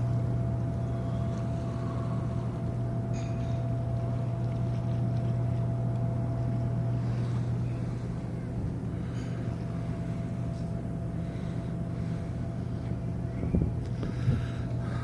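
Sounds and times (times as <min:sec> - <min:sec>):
ship machinery low hum: 0:00.0 - 0:15.0.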